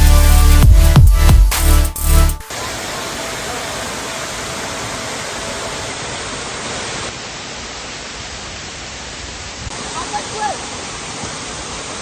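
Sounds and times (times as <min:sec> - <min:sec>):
waterfall rushing: 0:02.1 - 0:12.0.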